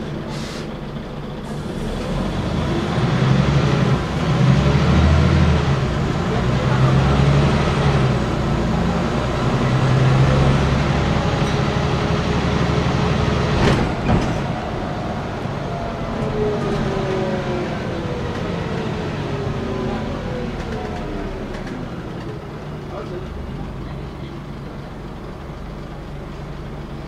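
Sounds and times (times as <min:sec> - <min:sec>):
bus diesel engine running: 0:00.0 - 0:27.0.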